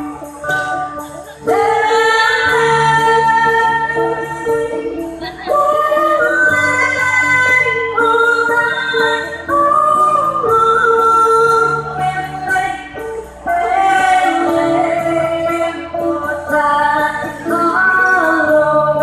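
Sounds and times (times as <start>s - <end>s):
girl singing folk song: 0.5s - 19.0s.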